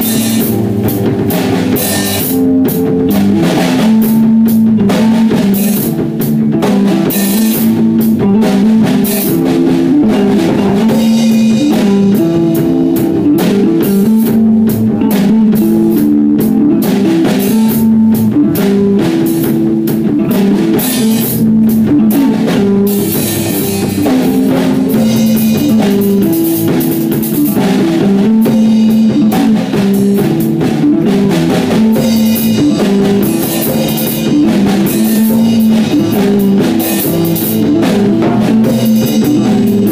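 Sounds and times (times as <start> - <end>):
drum kit with cymbals: 0.0 - 39.9
electric guitars playing riff: 0.0 - 39.9
instrumental rock jam: 0.0 - 39.9.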